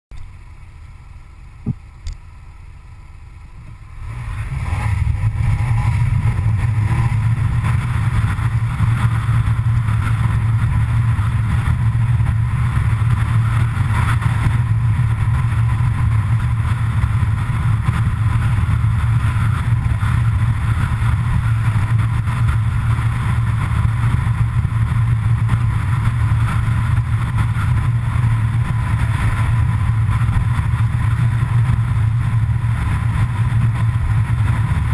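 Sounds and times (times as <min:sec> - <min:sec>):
wind and road noise rumble: 0:00.1 - 0:34.9.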